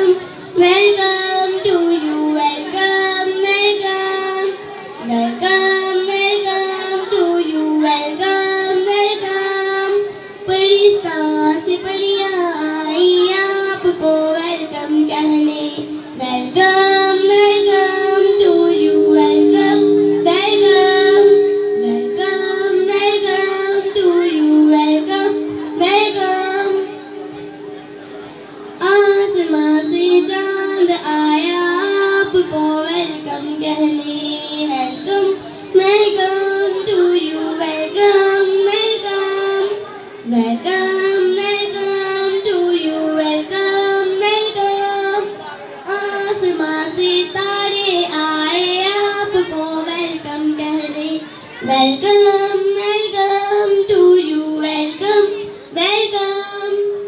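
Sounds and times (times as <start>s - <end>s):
girls singing into a microphone: 0.0s - 27.8s, 28.8s - 57.0s.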